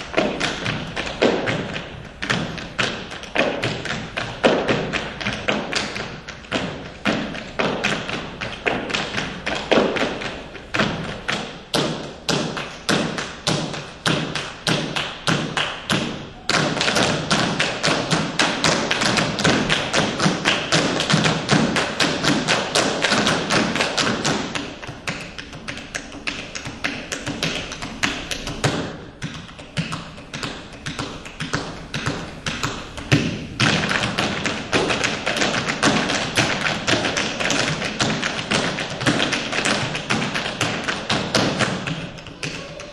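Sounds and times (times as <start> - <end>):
rhythmic taps and thuds: 0.0 - 42.9.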